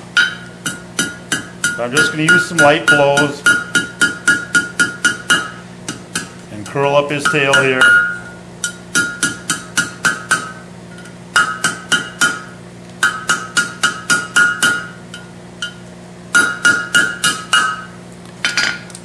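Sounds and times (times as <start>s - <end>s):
hammer ringing on anvil: 0.1s - 18.8s.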